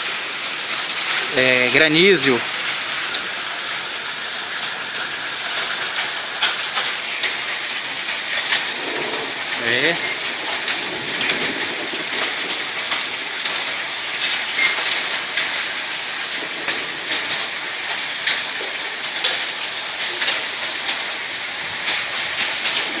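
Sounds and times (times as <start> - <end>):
hailstones striking hard surfaces: 0.0 - 23.0
rain hissing: 0.0 - 23.0.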